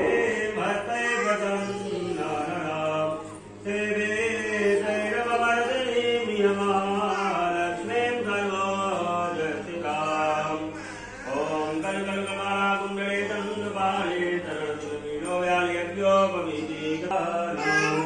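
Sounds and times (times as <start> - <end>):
man chanting into microphone: 0.0 - 18.0.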